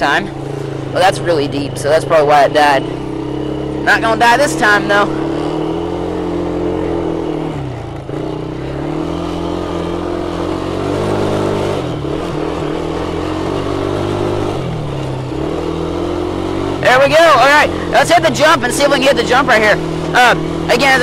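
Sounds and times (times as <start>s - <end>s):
small atv engine revving: 0.0s - 21.0s.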